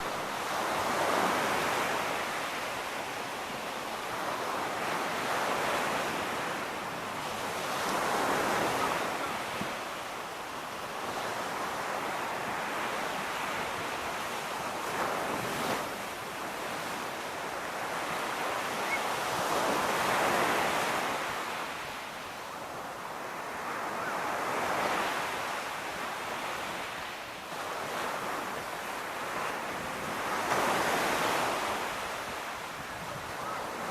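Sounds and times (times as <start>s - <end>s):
ocean waves breaking on beach: 0.0s - 33.9s.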